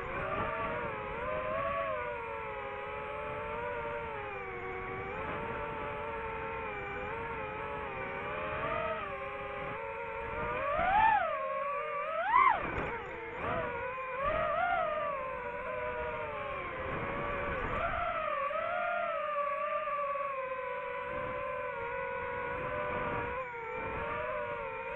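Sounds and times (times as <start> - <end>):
drone propellers whining: 0.0 - 24.9.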